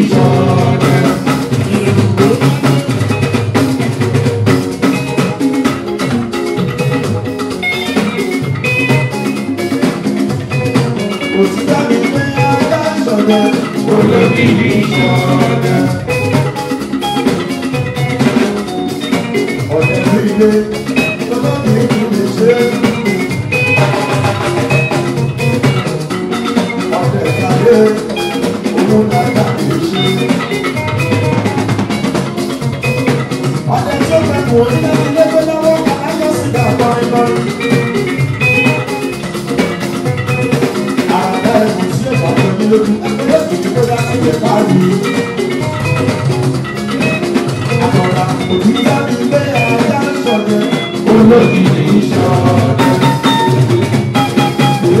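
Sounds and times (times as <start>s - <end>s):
drums and percussion: 0.0s - 55.0s
guitar playing: 0.0s - 55.0s.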